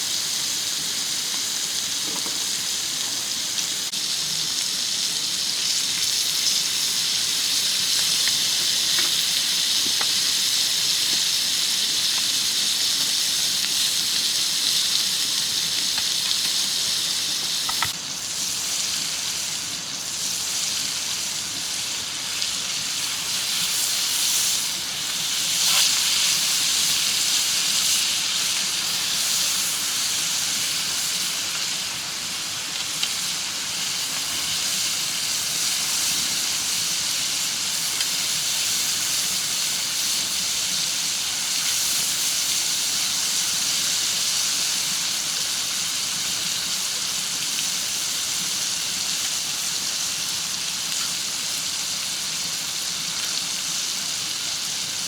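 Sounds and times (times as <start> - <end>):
fire crackles: 0.0 - 53.7
food sizzling over fire: 0.0 - 55.0.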